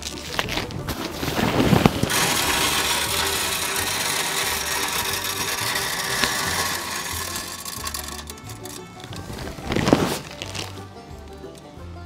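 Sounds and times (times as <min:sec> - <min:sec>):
pellets pouring into metal hopper: 0:00.0 - 0:10.8.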